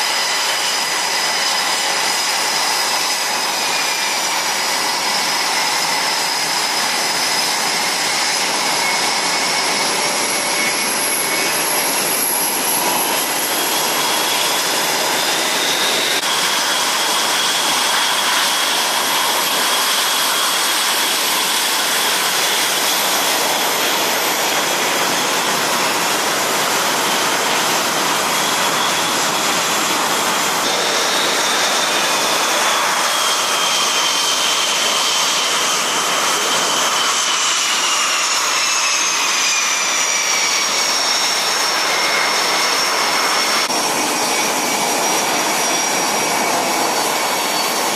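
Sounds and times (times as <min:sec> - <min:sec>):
high-pitched turbine whine: 0:00.0 - 0:47.9
jet engines running: 0:00.0 - 0:47.9.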